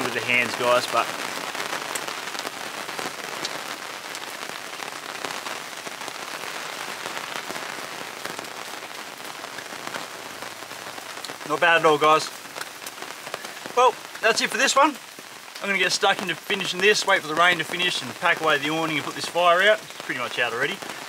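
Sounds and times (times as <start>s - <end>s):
heavy rain: 0.0s - 21.0s
single raindrops tapping: 0.0s - 21.0s.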